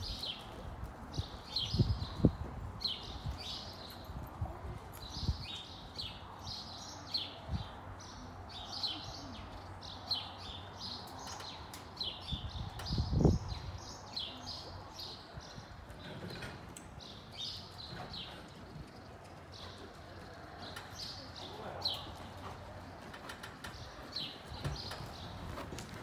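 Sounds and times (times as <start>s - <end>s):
small birds chirping: 4.9s - 25.9s.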